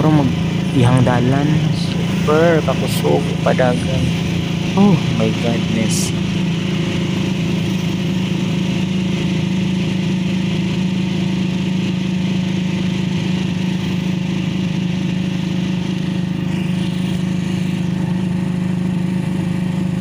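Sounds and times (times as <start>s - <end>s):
motorcycle engine droning: 0.0s - 20.0s
road noise: 0.0s - 20.0s.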